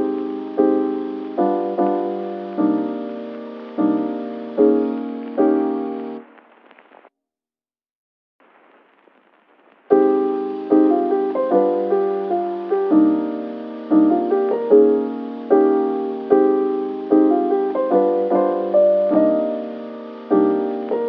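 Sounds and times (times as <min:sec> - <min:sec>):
slow piano music: 0:00.0 - 0:06.4, 0:09.9 - 0:21.0
faint hiss: 0:00.0 - 0:07.1, 0:08.4 - 0:21.0.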